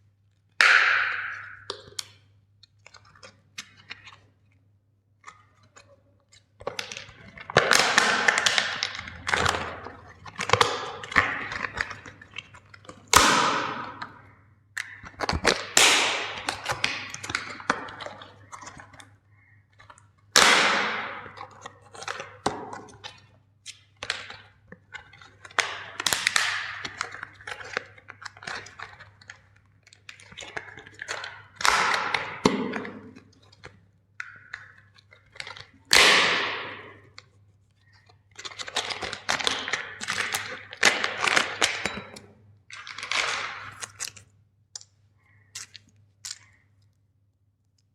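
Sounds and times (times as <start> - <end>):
plastic cracking and crunching: 5.3 - 47.0.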